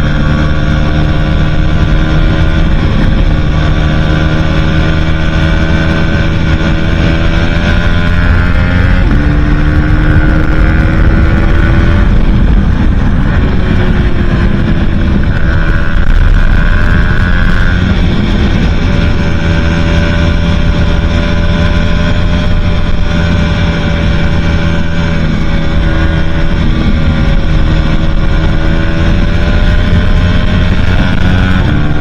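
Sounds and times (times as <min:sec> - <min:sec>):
motorcycle engine at high revs: 0:00.0 - 0:32.0
wind noise on microphone: 0:00.0 - 0:32.0.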